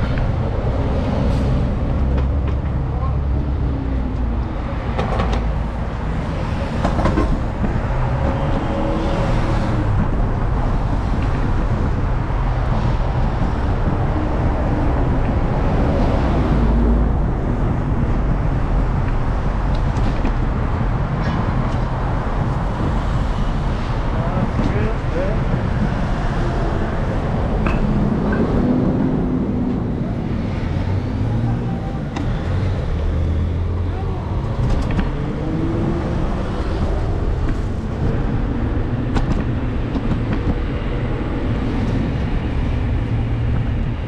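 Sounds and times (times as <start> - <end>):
street traffic rumble: 0.0 - 44.0.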